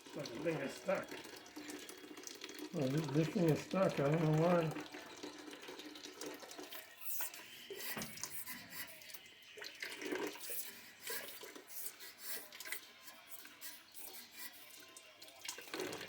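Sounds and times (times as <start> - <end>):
hot water trickling and splashing: 0.0 - 16.0.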